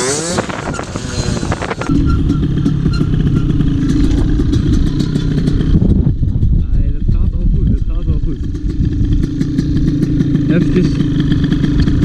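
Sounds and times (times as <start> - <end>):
moped engine drone: 0.0 - 12.0.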